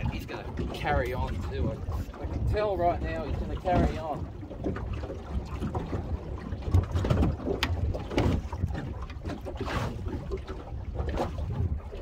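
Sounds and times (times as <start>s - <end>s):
water washing around boat: 0.0s - 12.0s
wind buffeting microphone: 0.0s - 12.0s.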